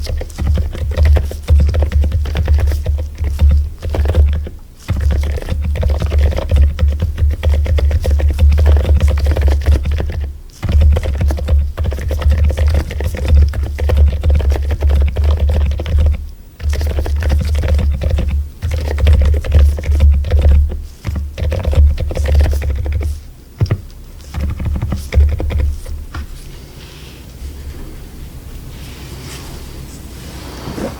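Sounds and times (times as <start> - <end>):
fast typing on mechanical keyboard: 0.0 - 26.1.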